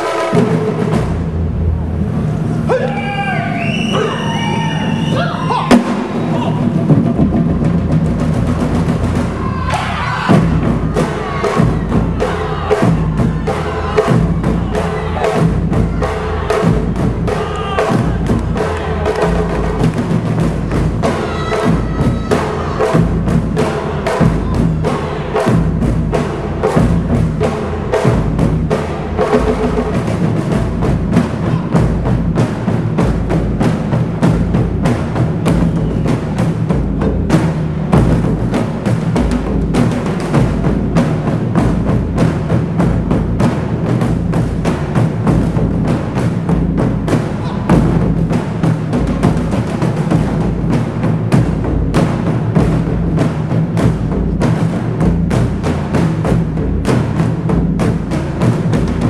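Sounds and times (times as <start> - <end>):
drum ensemble playing fast rhythm: 0.0 - 59.0.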